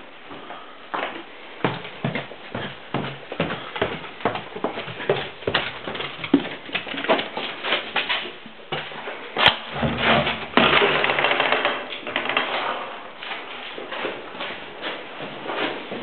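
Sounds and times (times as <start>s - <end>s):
footsteps on bare floors: 0.0s - 10.9s, 12.1s - 16.0s.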